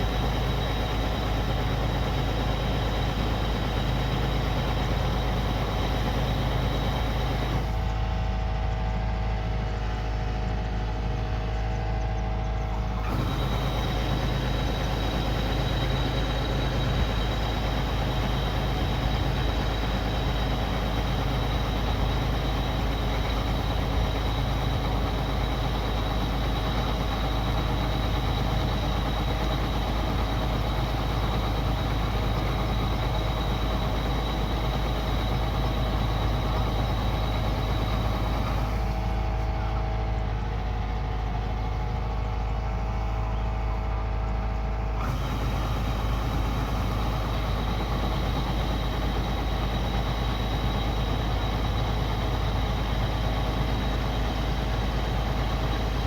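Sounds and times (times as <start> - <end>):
combine harvester diesel drone: 0.0 - 56.0.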